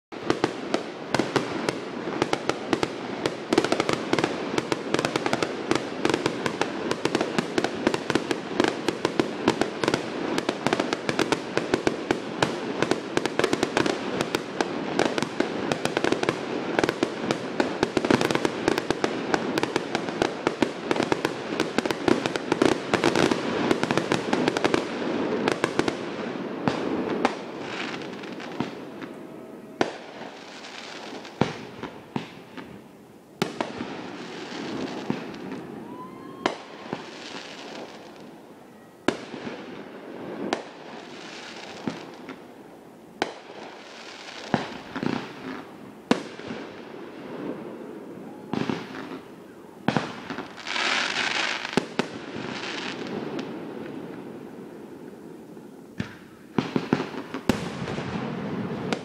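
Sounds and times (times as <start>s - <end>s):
firework popping and crackling: 0.2s - 42.6s, 43.2s - 59.0s.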